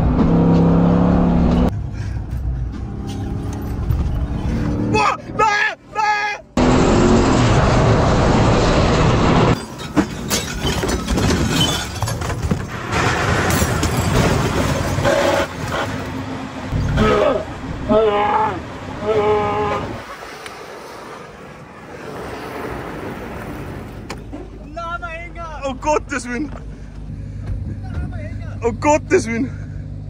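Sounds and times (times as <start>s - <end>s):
rushing road noise: 0.0s - 11.3s, 12.0s - 30.0s.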